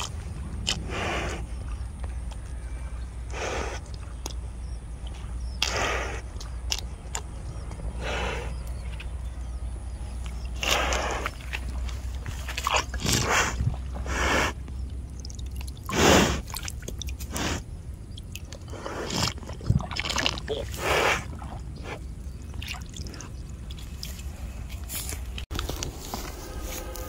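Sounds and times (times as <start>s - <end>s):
cow slurping water: 0.0s - 25.9s.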